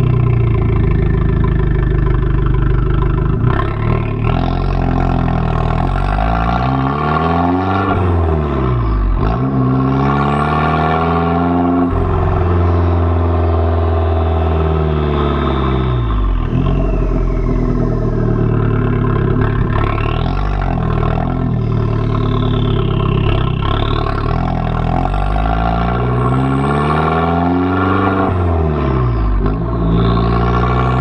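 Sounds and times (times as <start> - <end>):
car exhaust note: 0.0 - 31.0.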